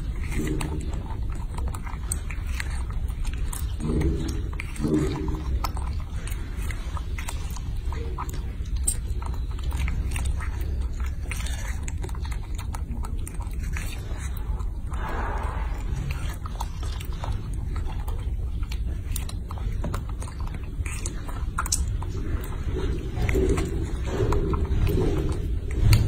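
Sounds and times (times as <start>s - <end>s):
monkey chewing strawberries: 0.0s - 26.0s
steady low rumble: 0.0s - 26.0s.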